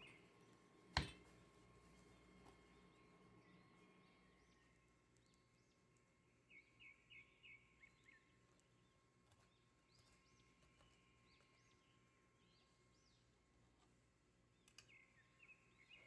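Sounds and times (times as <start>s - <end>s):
faint steady hum: 0.0s - 16.0s
faint bird chirping: 2.1s - 13.6s, 14.5s - 16.0s.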